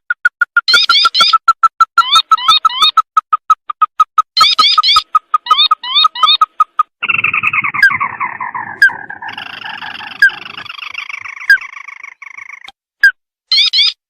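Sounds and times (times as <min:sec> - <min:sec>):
bird chirps: 0:00.1 - 0:14.0
bird rattling trill: 0:00.2 - 0:12.7.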